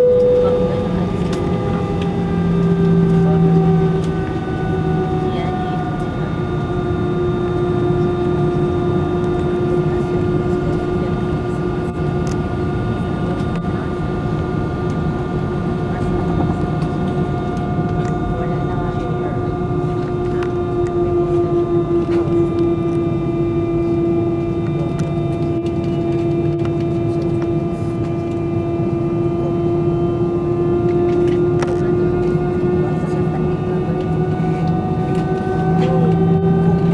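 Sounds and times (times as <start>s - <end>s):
airplane cabin drone: 0.0s - 36.9s
constant hum tone: 0.0s - 36.9s.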